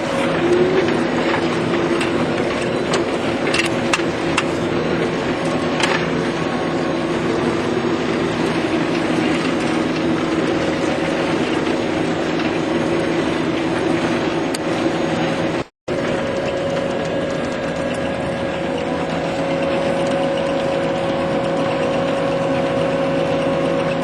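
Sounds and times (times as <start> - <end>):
forage harvester running: 0.0 - 24.0.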